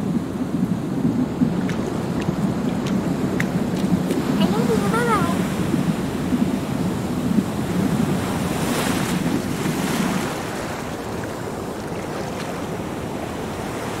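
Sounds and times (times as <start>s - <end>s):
ocean water rushing: 0.0s - 14.0s
wind noise on microphone: 0.0s - 14.0s.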